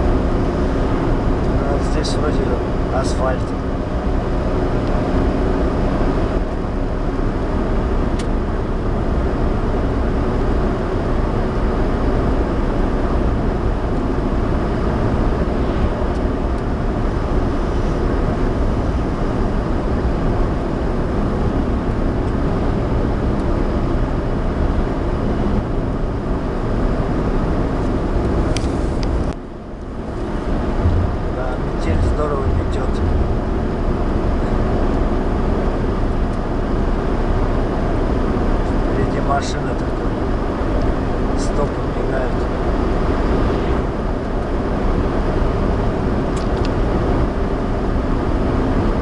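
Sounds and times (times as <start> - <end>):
car engine in cabin: 0.0 - 49.0
tyres rumbling on road: 0.0 - 49.0.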